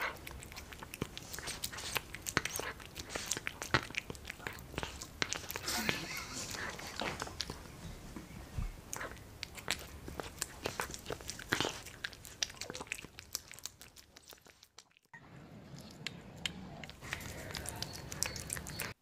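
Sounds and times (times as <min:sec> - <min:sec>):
cat chewing and lapping: 0:00.0 - 0:19.0.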